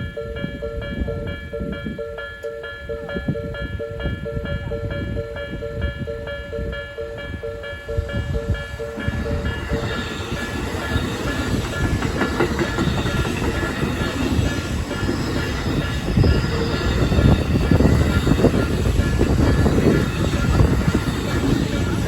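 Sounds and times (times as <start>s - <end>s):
level crossing alarm dinging: 0.0s - 22.0s
train rumbling and rattling: 0.0s - 22.0s.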